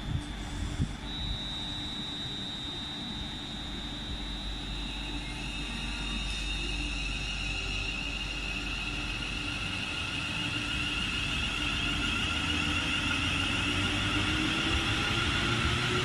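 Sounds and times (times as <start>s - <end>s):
electric train traction whine: 0.0s - 16.0s
train running noise: 0.0s - 16.0s.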